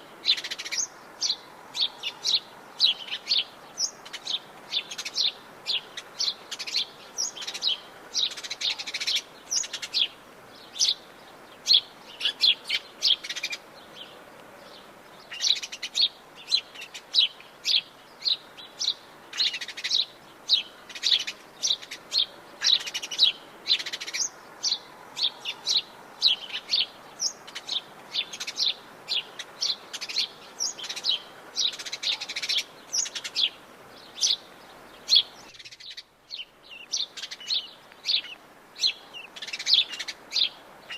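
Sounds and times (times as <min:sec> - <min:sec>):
birds chirping: 0:00.0 - 0:40.9
faint steady hiss: 0:00.0 - 0:40.9.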